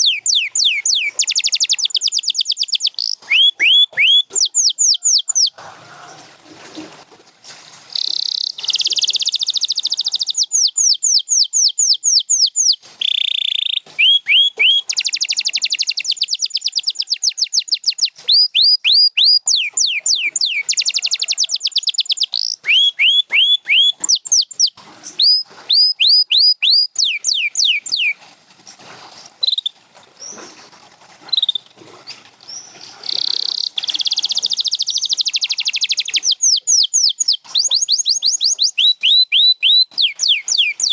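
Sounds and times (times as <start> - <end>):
canary singing: 0.0 - 6.2, 7.9 - 28.2, 32.5 - 40.9.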